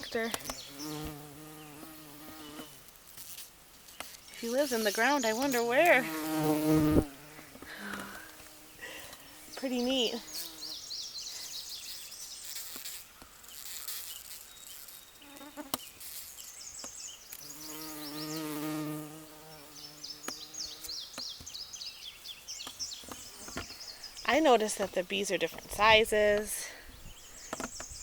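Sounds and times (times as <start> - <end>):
bumblebee buzzing: 0.0 - 26.4.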